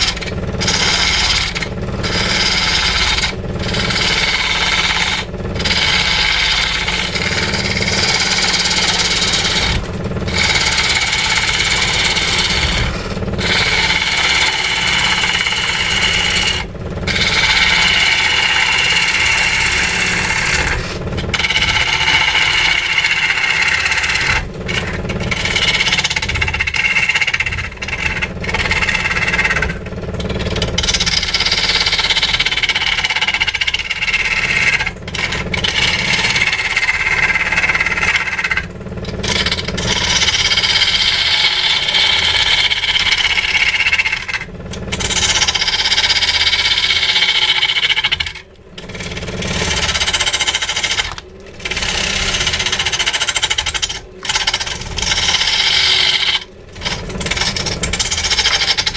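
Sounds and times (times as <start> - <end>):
power tool working wood: 0.0 - 58.9.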